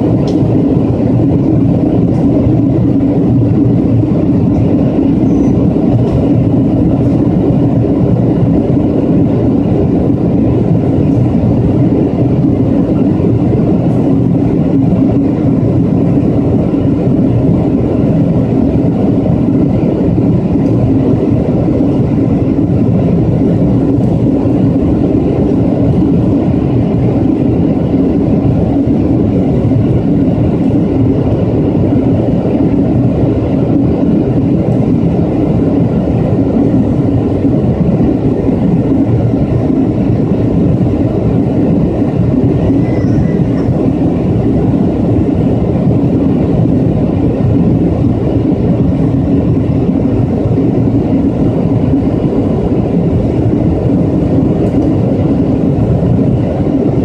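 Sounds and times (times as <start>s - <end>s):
jet airliner cabin roar: 0.0s - 57.0s.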